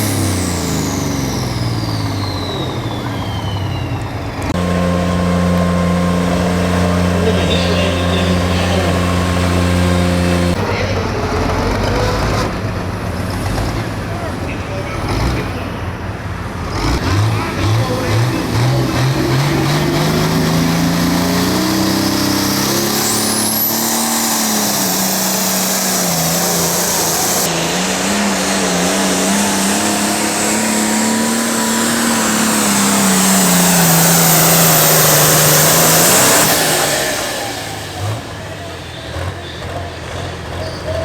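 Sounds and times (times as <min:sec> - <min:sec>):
tractor diesel engine at full power: 0:00.0 - 0:41.0.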